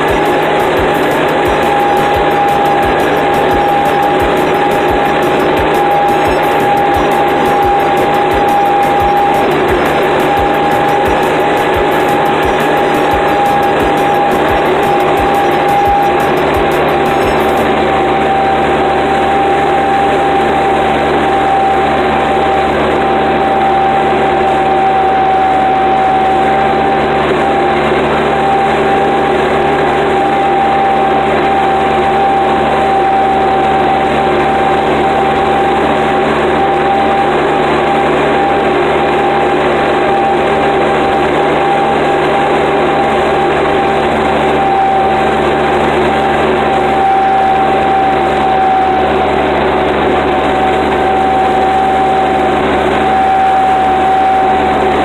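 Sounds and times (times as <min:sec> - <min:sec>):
constant whining tone: 0:00.0 - 0:55.0
tractor diesel engine running: 0:00.0 - 0:55.0.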